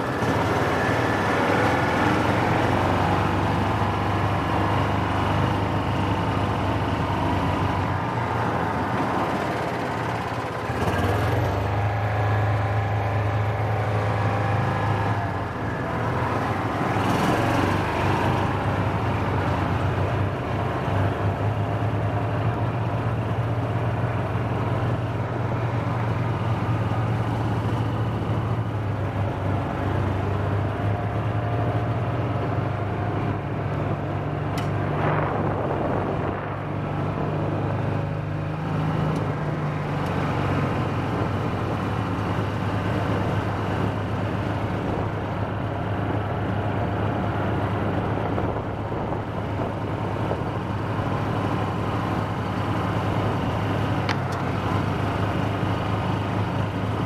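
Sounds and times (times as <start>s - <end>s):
tyre and road noise: 0.0s - 57.0s
utility vehicle engine running: 0.0s - 57.0s.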